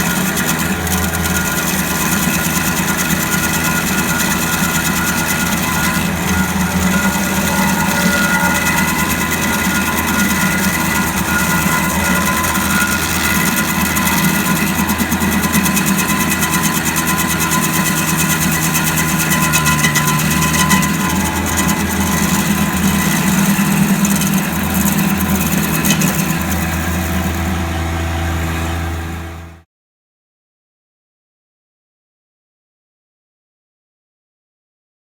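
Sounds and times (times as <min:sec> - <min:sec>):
small gasoline engine running: 0:00.0 - 0:29.6.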